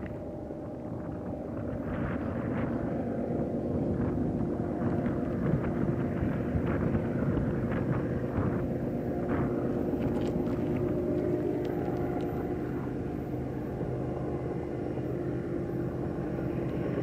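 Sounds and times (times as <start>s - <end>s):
locomotive engine drone: 0.0s - 17.0s.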